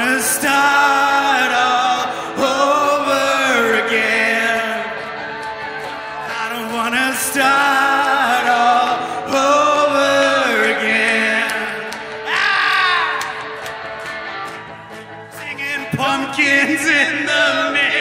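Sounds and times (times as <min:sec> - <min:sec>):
man singing long notes: 0:00.0 - 0:05.0, 0:06.3 - 0:13.4, 0:15.3 - 0:18.0
electric guitar: 0:00.0 - 0:18.0.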